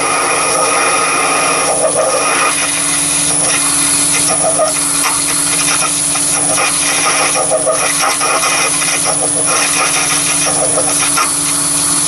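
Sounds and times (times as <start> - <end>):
drill cutting metal: 0.0 - 12.0
lathe motor hum and whine: 0.0 - 12.0.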